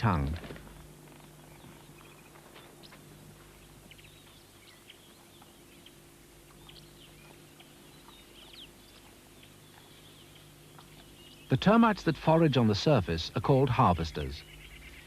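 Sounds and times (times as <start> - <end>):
quiet hiss: 0.0 - 15.0
steady low hum: 0.0 - 15.0.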